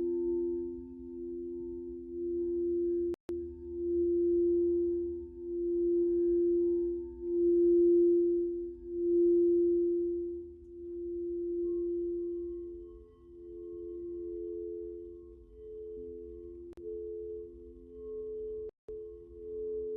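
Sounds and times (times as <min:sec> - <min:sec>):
singing bowls low tone: 0:00.0 - 0:19.9.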